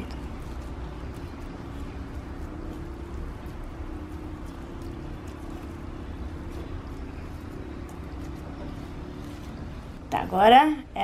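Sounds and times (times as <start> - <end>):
slime crackling: 0.0 - 10.0
low background hum: 0.0 - 11.0.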